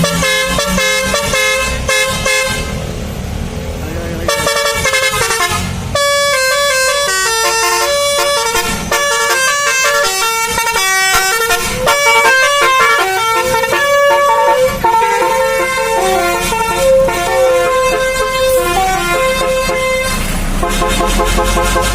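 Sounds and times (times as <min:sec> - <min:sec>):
musical bus air horn tune: 0:00.0 - 0:02.8, 0:04.3 - 0:21.9.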